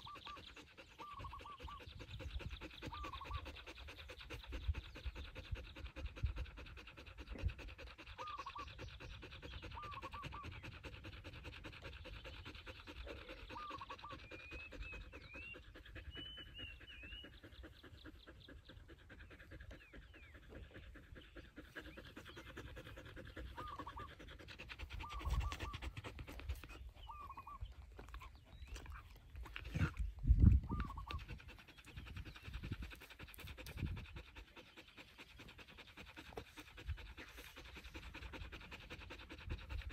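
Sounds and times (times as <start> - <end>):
dog panting: 0.0 - 39.9.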